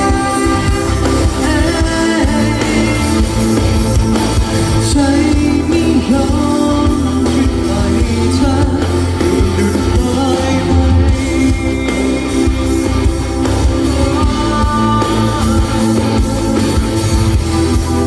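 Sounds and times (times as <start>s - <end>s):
person singing: 0.0s - 3.7s, 4.8s - 16.8s
band playing pop-rock: 0.0s - 18.0s.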